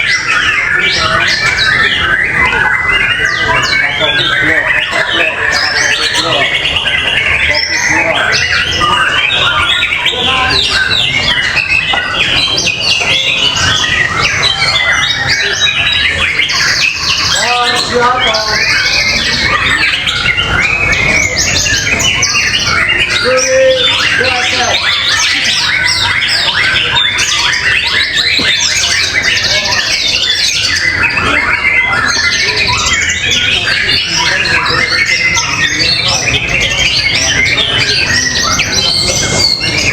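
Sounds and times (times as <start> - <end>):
caged songbirds singing: 0.0 - 39.9.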